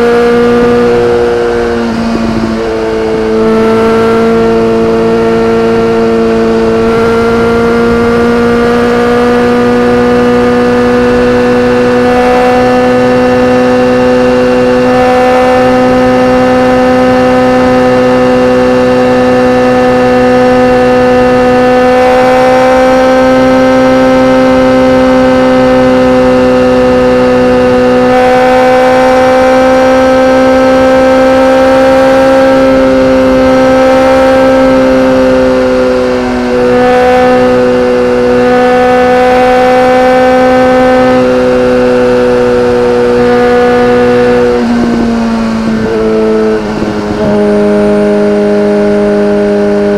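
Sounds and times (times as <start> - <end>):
motorcycle engine at steady speed: 0.0 - 49.9.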